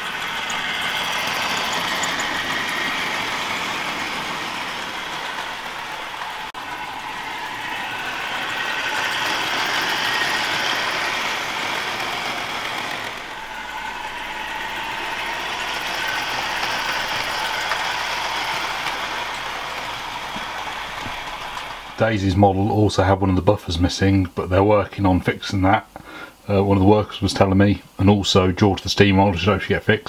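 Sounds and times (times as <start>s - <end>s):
model train running: 0.0s - 30.0s.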